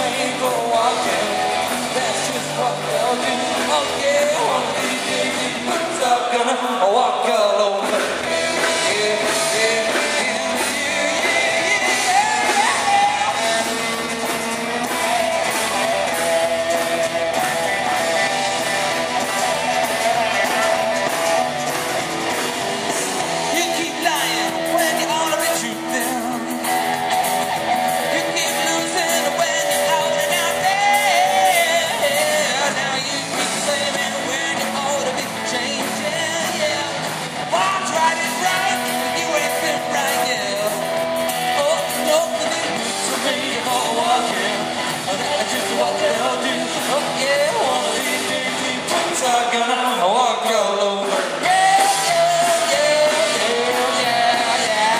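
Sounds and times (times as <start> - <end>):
live rock band playing: 0.0 - 54.9
man singing: 0.0 - 54.9.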